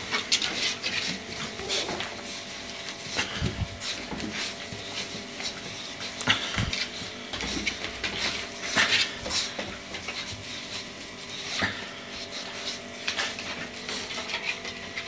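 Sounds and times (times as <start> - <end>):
puppies chewing meat: 0.0 - 15.0.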